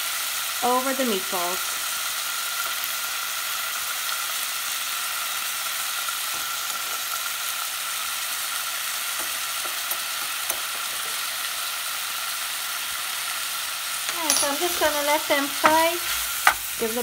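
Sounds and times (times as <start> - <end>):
meatballs sizzling in a frying pan: 0.0 - 17.0.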